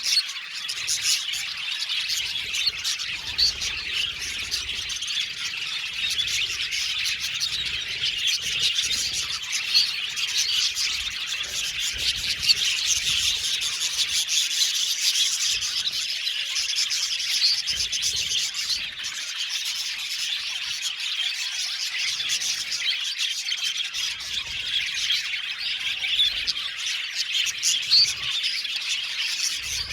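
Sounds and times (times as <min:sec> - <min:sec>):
budgerigars chattering: 0:00.0 - 0:29.9.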